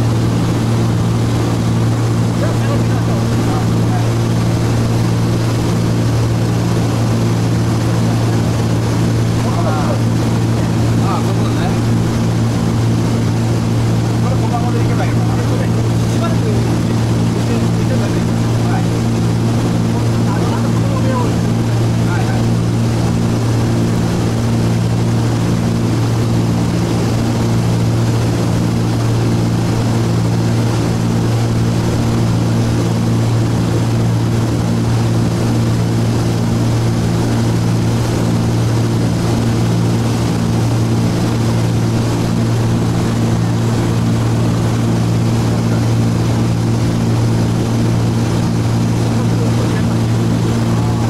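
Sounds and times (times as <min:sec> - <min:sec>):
aircraft engines droning: 0:00.0 - 0:51.0.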